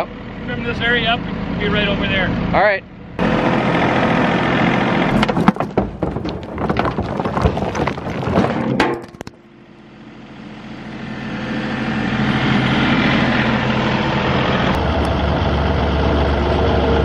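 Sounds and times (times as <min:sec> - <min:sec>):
tractor engine running: 0:00.0 - 0:17.0
deep rumble: 0:00.4 - 0:17.0.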